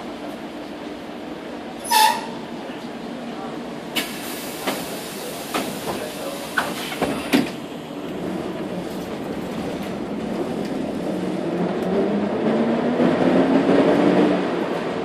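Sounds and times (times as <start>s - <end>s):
bus engine: 0.0s - 15.0s
road noise: 0.0s - 15.0s.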